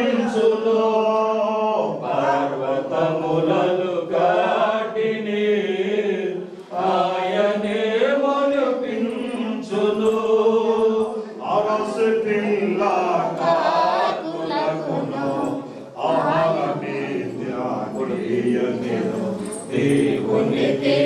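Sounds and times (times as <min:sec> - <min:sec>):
group singing in unison: 0:00.0 - 0:21.0.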